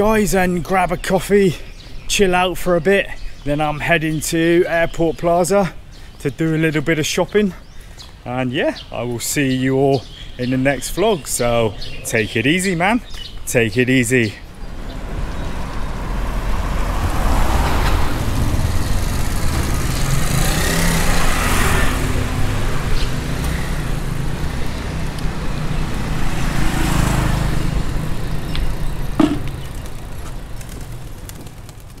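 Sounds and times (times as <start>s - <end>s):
passing traffic: 0.0s - 32.0s
road noise low rumble: 0.0s - 32.0s
wind: 0.0s - 32.0s.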